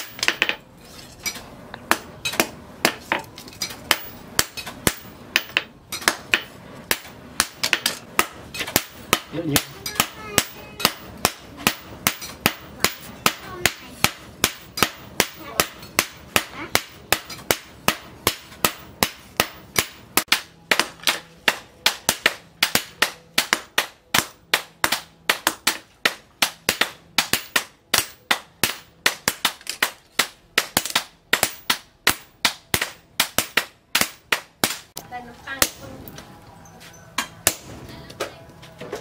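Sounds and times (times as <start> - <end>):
hammer striking steel on anvil: 1.2 - 34.8.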